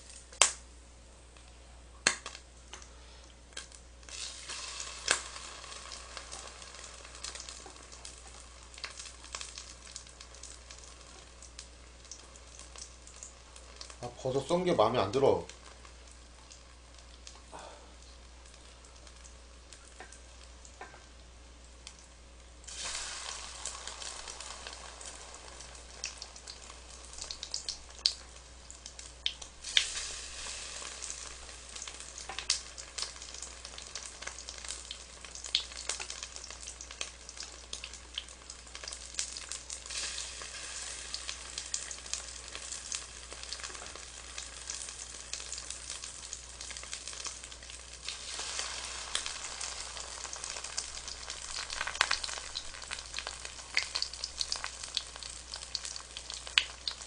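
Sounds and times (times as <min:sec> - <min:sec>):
mushrooms sizzling in oil: 0:02.0 - 0:57.0.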